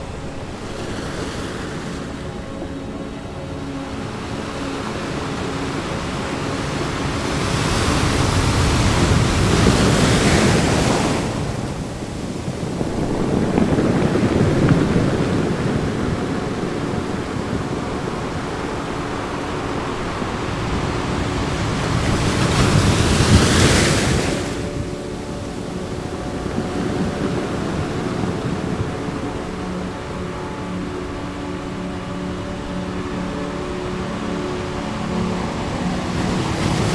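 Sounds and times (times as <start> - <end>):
ocean waves breaking: 0.0 - 36.9.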